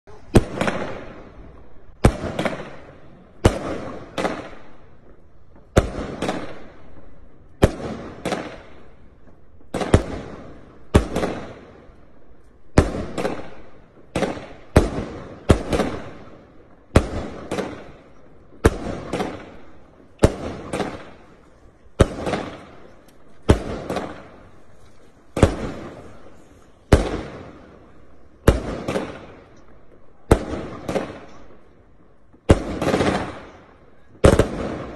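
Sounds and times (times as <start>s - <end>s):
firework barrage bangs: 0.1s - 7.0s, 7.6s - 11.8s, 12.7s - 31.7s, 32.3s - 34.9s.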